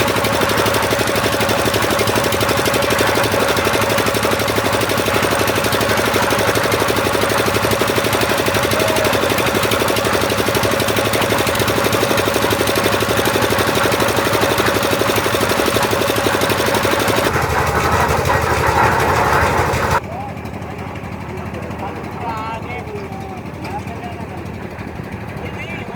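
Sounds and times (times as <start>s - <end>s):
concrete mixer engine running: 0.0s - 25.9s.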